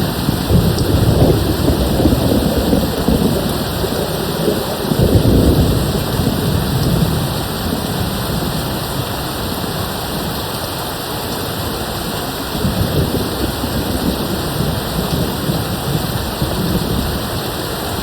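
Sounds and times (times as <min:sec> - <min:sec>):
distant thunder rumbling: 0:00.0 - 0:09.2, 0:12.6 - 0:18.0
steady rain: 0:00.0 - 0:18.0.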